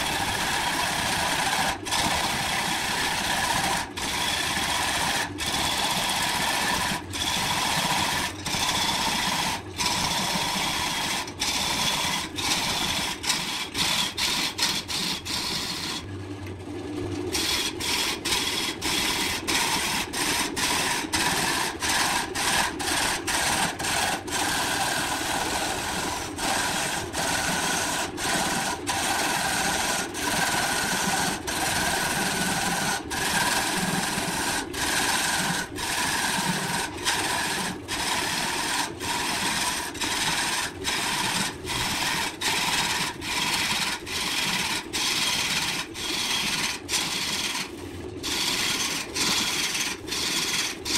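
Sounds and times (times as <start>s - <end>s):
gouge cutting spinning wood: 0.0s - 16.0s, 17.3s - 50.9s
lathe motor hum: 0.0s - 16.1s, 17.3s - 50.9s.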